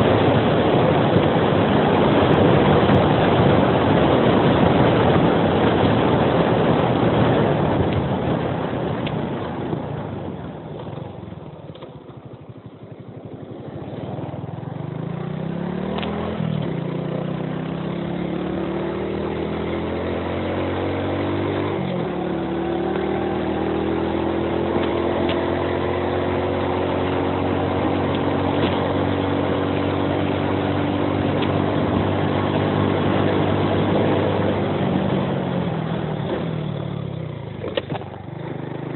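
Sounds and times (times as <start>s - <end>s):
wind rush on microphone: 0.0s - 11.4s, 18.0s - 38.7s
motorcycle engine accelerating: 0.0s - 38.9s.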